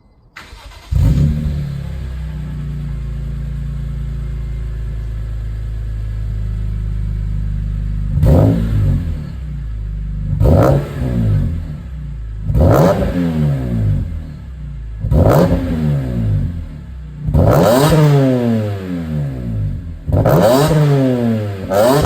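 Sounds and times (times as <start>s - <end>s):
car engine idling and revving: 0.4s - 22.0s.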